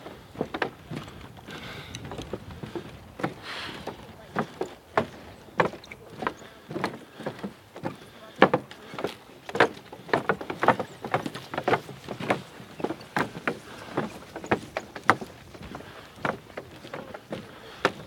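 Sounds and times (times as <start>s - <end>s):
footsteps on wooden boardwalk: 0.0s - 18.0s.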